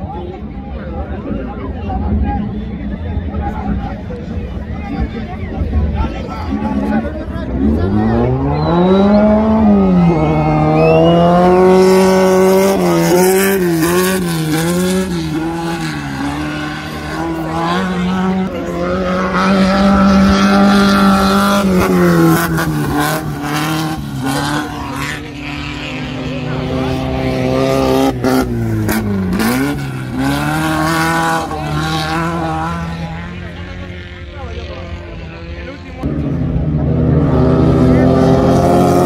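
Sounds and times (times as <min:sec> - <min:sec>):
buggy engine accelerating hard: 0:00.0 - 0:39.0.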